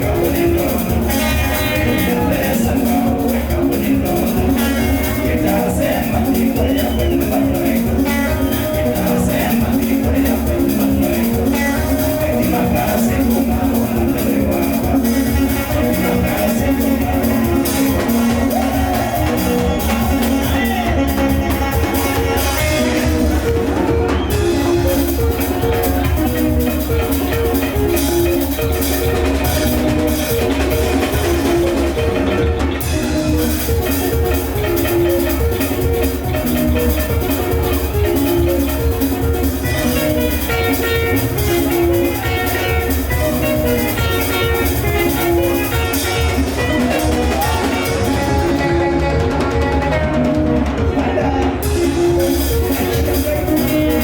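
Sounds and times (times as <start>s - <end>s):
steady bass and drums: 0.0s - 54.0s.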